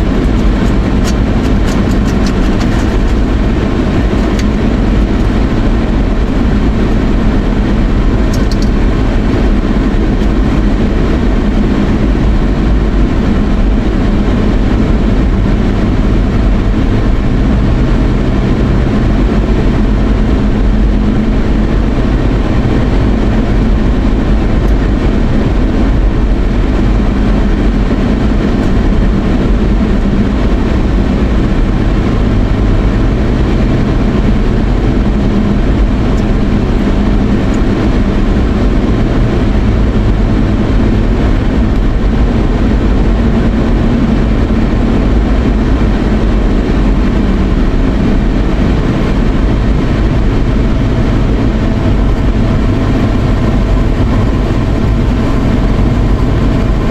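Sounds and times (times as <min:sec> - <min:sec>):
car cabin road noise: 0:00.0 - 0:56.9.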